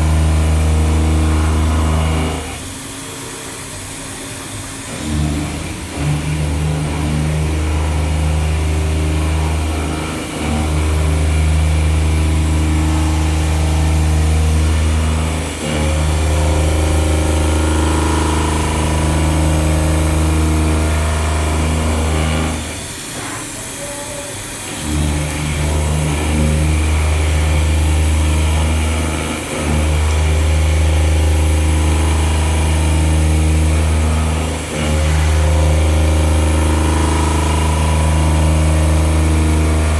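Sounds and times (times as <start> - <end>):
milling machine hum: 0.0 - 39.9.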